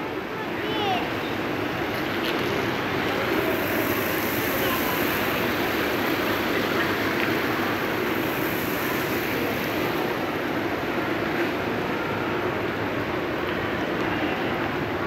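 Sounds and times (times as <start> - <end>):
shopping mall background din: 0.0 - 15.0.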